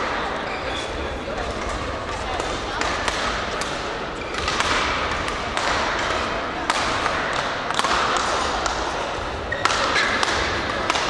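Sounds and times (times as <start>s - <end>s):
hum of voices: 0.0s - 11.0s
rackets hitting shuttlecock: 0.2s - 11.0s.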